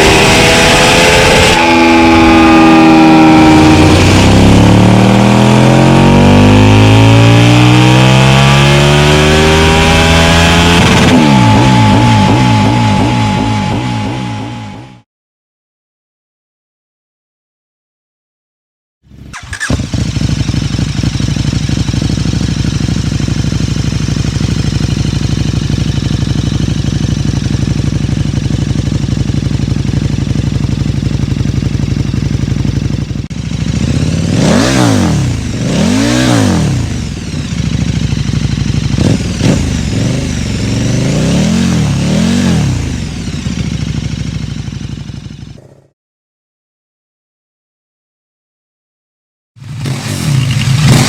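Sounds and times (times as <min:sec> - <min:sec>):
motorcycle engine idling and revving: 0:00.0 - 0:15.0, 0:19.1 - 0:45.9, 0:49.6 - 0:51.0.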